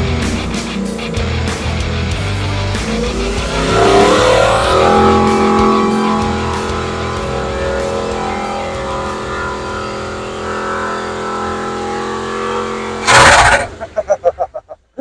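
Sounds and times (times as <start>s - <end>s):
loud rush of noise: 0.0s - 13.8s
tires spinning on pavement: 0.0s - 14.7s
engine at high revs: 0.0s - 14.8s.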